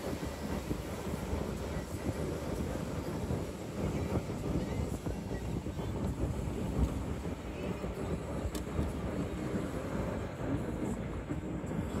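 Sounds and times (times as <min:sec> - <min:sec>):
car interior driving rumble: 0:00.0 - 0:12.0.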